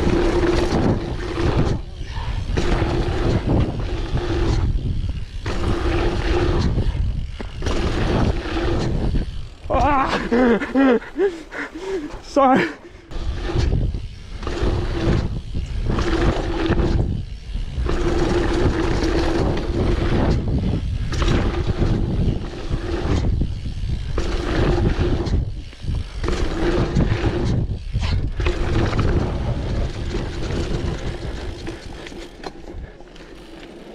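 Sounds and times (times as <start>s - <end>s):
wind on microphone: 0.0s - 11.3s, 13.0s - 32.0s
bike freewheel buzzing: 0.0s - 33.9s
tyres rumbling on dirt: 0.0s - 33.9s.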